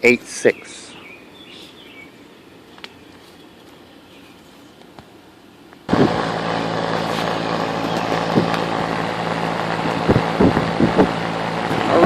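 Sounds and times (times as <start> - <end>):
air conditioning unit humming: 0.0 - 12.0
fan air noise: 0.0 - 12.0.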